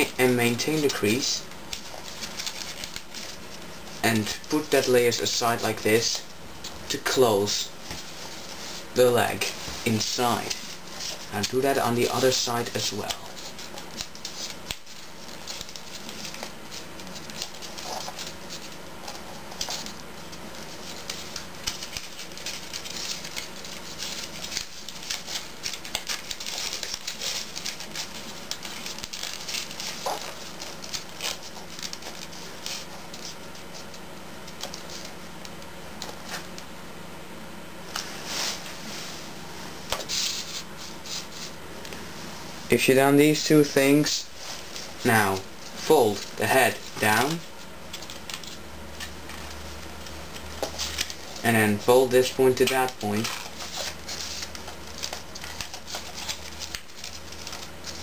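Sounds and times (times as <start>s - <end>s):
paper being folded and creased: 0.0s - 6.0s, 6.6s - 36.6s, 39.8s - 41.6s, 44.4s - 58.0s.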